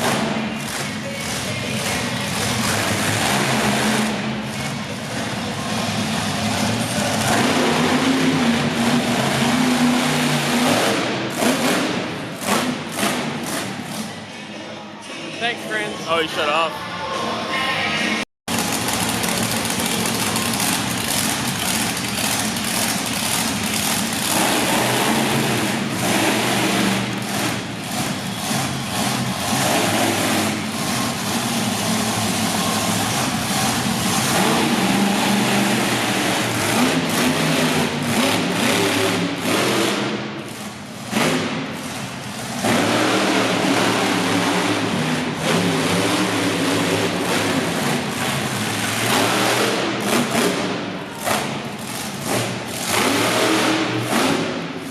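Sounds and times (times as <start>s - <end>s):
truck engine revving: 0.0s - 14.4s, 18.1s - 54.9s.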